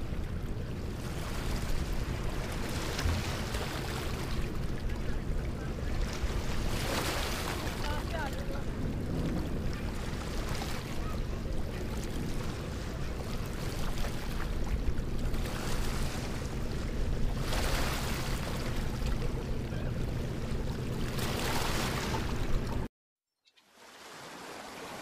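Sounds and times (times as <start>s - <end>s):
waves washing against pier: 0.0s - 22.9s, 23.8s - 25.0s.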